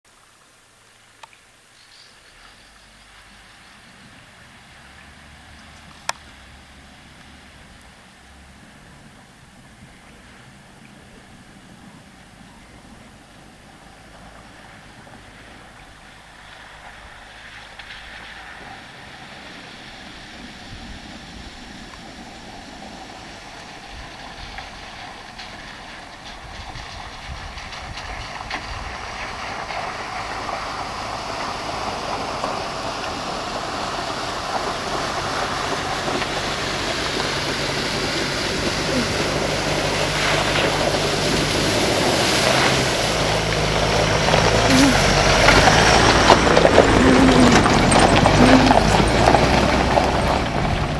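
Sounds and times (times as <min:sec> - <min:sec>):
truck engine drone: 0:02.7 - 0:50.9
tyres splashing through water: 0:02.9 - 0:50.9.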